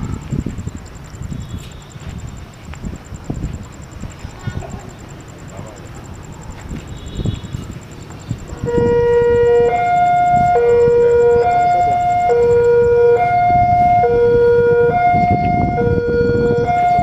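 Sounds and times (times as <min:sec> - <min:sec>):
electronic two-tone warning alarm: 0:00.0 - 0:17.0.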